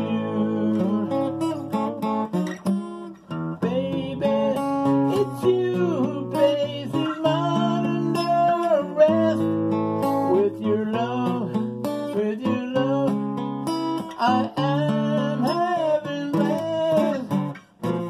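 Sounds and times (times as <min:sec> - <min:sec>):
man singing: 0:00.0 - 0:02.3, 0:03.3 - 0:18.0
acoustic guitar strumming: 0:00.0 - 0:18.0.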